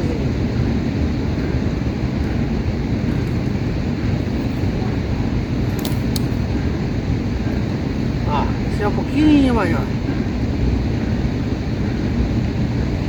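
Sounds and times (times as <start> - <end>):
steady low rushing noise: 0.0 - 13.0.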